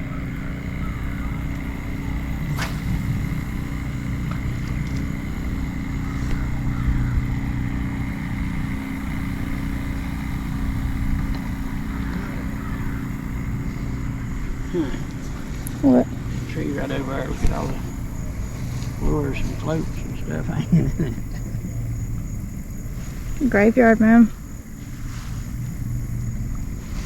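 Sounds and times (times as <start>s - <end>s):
engine droning: 0.0s - 27.0s.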